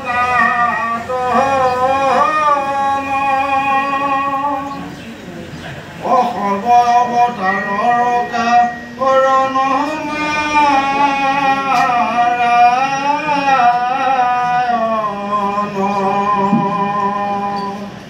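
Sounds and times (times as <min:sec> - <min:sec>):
man chanting a slow melody: 0:00.0 - 0:05.0, 0:06.0 - 0:18.0.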